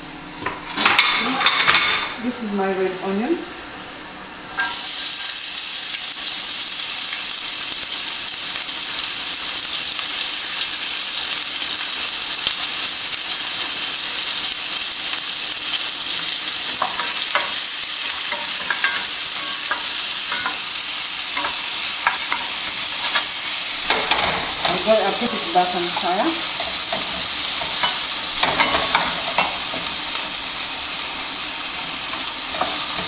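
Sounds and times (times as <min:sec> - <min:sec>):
onions sizzling in hot oil: 0:04.2 - 0:33.0.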